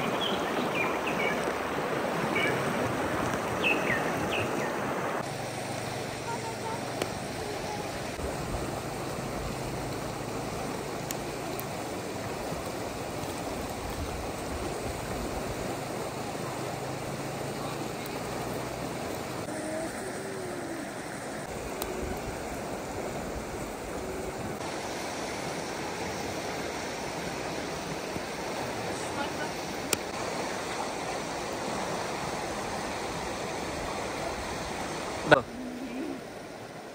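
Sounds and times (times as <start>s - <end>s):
running water rushing: 0.0s - 36.9s.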